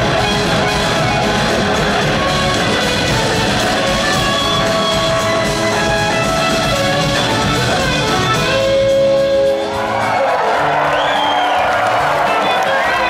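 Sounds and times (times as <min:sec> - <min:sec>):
bass guitar: 0:00.0 - 0:13.0
drum kits: 0:00.0 - 0:13.0
electric guitars: 0:00.0 - 0:13.0.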